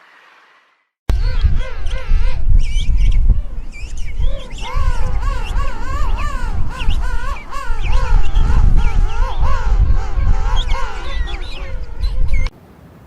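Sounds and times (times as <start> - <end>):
bird wavering calls: 1.1 - 12.5.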